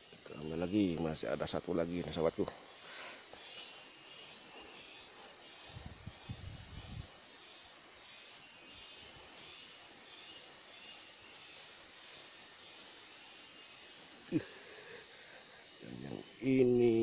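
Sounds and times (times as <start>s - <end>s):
insect chirp pulsing: 0.0s - 17.0s
insects shrilling: 0.0s - 17.0s.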